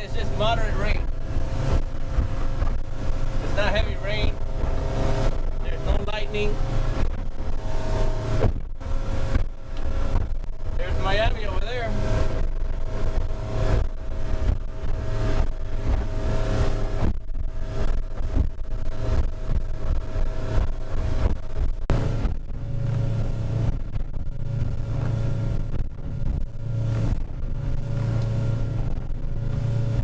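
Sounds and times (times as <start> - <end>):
engine rumble: 0.0 - 30.0
wind buffeting microphone: 0.0 - 30.0.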